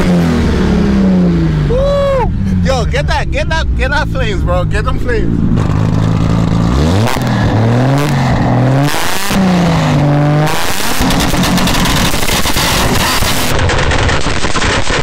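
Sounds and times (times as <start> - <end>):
car engine revving: 0.0 - 15.0
engine on launch limiter: 0.0 - 15.0
exhaust pops and crackles: 2.4 - 15.0.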